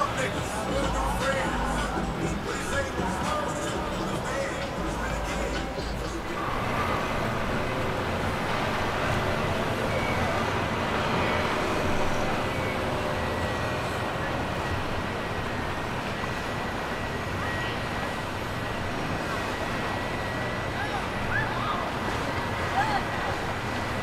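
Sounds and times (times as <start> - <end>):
boat engines running: 0.0 - 24.0
water wash: 0.0 - 24.0.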